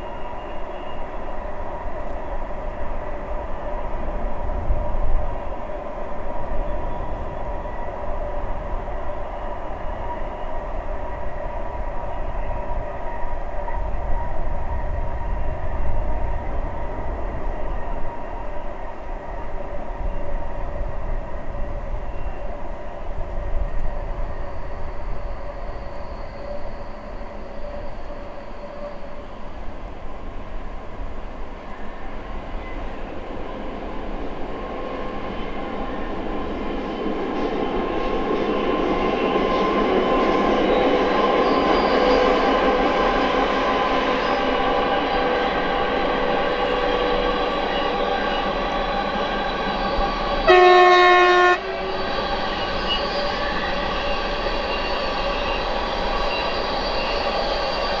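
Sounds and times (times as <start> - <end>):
freight train passing: 0.0 - 58.0
locomotive whine: 0.0 - 58.0.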